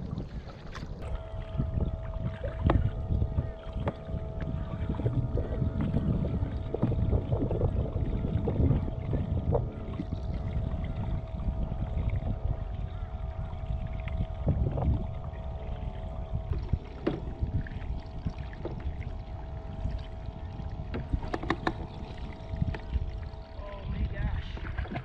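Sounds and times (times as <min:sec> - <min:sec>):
faint steady hum: 0:00.0 - 0:25.0
water slapping kayak hull: 0:00.0 - 0:25.0
wind buffeting microphone: 0:00.0 - 0:25.0.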